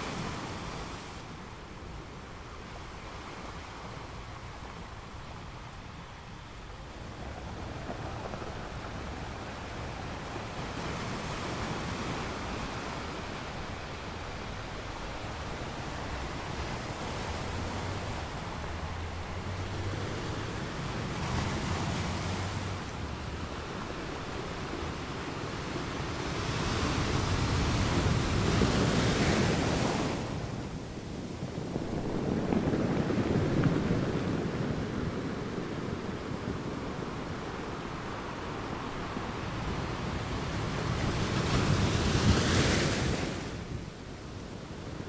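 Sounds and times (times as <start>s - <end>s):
ocean waves washing: 0.0s - 45.0s.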